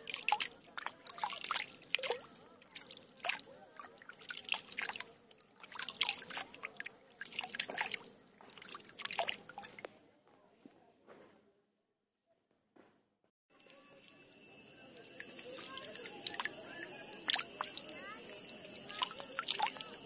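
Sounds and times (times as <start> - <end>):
water trickling and dripping: 0.0 - 9.9, 13.5 - 20.0.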